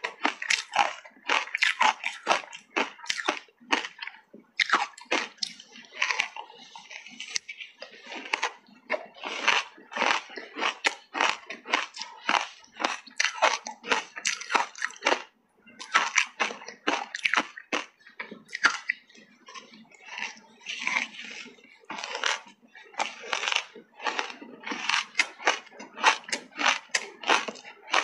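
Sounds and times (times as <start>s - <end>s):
ice crunching and chewing: 0.0s - 28.0s.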